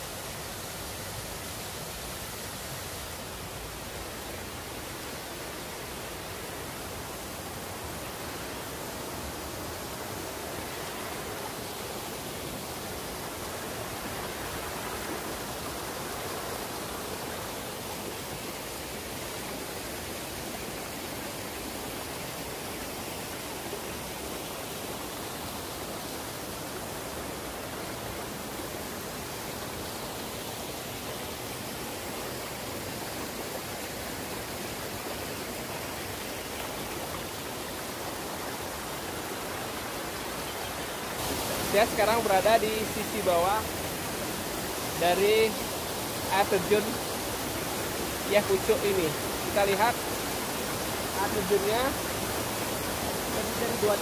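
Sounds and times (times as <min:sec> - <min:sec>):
waterfall pouring over rocks: 0:00.0 - 0:54.0.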